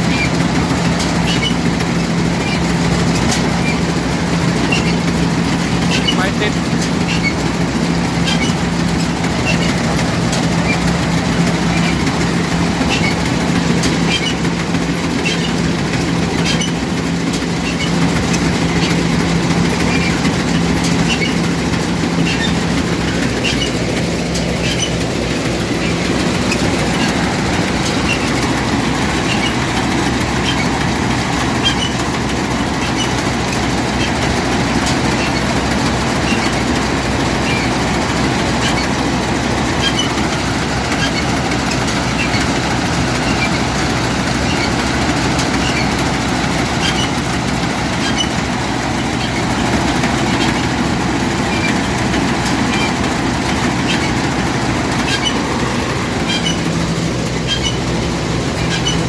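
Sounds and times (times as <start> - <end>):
combine harvester engine drone: 0.0 - 59.0
mechanical clatter: 0.0 - 59.0.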